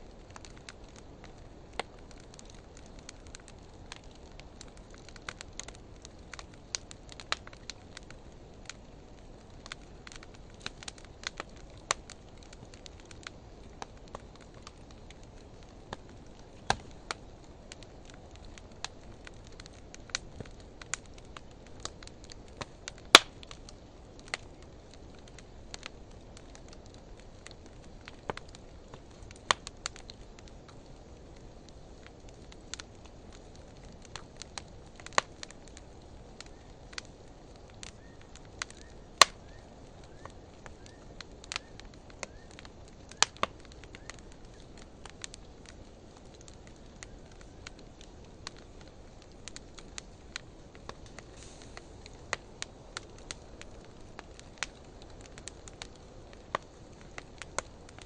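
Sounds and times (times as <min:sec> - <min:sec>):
fire crackling and popping: 0:00.0 - 0:58.0
low flame noise: 0:00.0 - 0:58.0.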